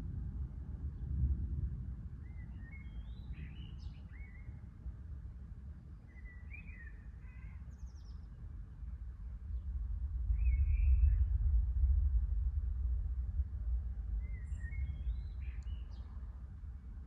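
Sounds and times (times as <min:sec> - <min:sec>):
steady low rumble: 0:00.0 - 0:06.0, 0:07.8 - 0:17.0.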